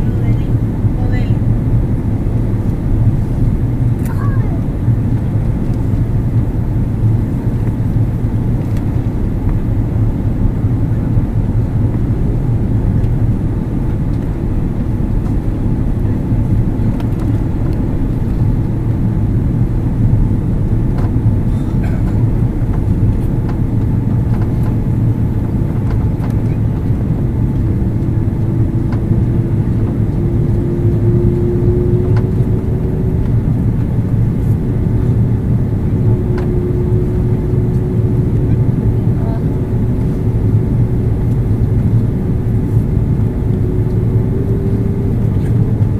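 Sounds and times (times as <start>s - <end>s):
airliner cabin engine roar: 0.0s - 45.9s.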